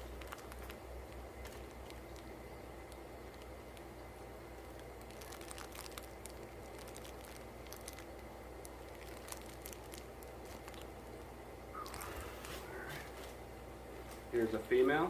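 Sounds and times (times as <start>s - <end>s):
plastic bag crinkling: 0.0s - 13.4s
steady low hum: 0.0s - 15.0s.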